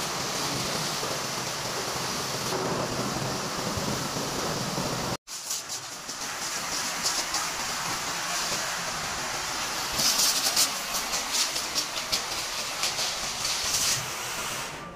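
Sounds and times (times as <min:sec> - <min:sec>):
hose water spraying on car: 0:00.0 - 0:14.9.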